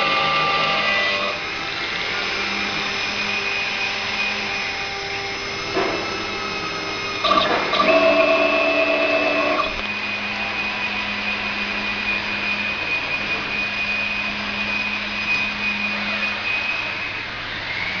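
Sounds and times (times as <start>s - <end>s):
machine noise: 0.0s - 18.0s
spindle high whine: 0.0s - 18.0s.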